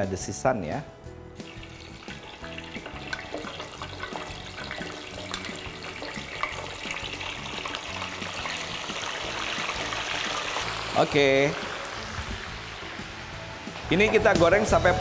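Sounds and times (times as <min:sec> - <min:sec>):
meat deep-frying in oil: 0:01.4 - 0:14.7.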